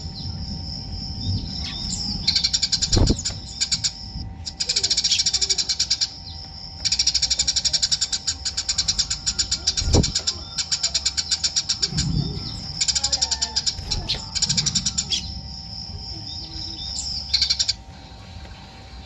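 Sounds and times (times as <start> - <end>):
sparrow chirping: 0.0 - 17.9.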